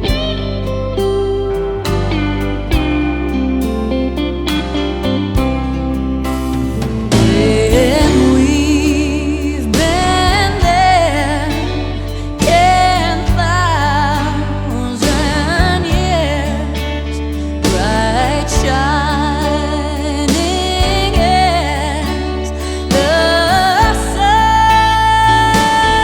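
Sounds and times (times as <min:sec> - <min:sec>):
steady bass line: 0:00.0 - 0:26.0.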